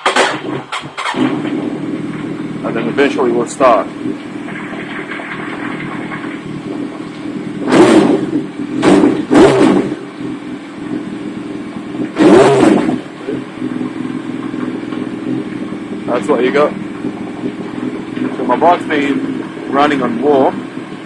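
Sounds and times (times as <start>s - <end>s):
motorcycle engine idling: 0.0s - 21.0s
motorcycle throttle blips: 0.0s - 21.0s.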